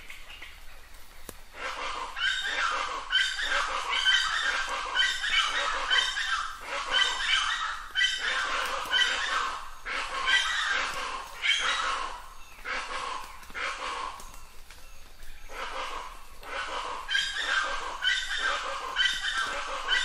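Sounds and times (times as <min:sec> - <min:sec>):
bird calling repeatedly: 0:00.0 - 0:20.0.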